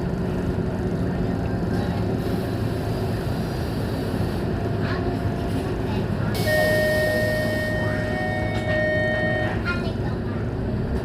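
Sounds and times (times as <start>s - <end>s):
bus diesel engine droning: 0.0s - 11.0s
road noise: 0.0s - 11.0s.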